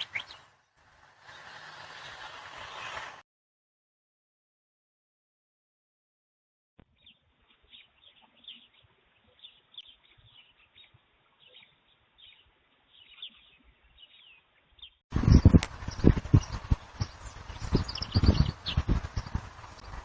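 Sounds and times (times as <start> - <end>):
small birds chirping: 0.0 - 3.1, 6.8 - 20.0.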